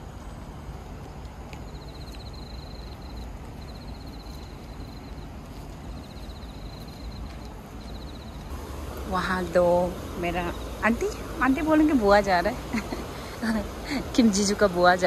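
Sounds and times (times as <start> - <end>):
insects chirping in trills: 0.0 - 15.0.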